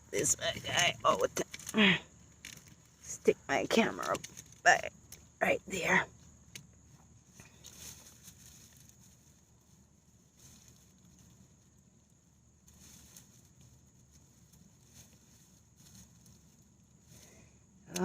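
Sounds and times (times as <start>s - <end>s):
faint rustling: 0.0s - 18.0s.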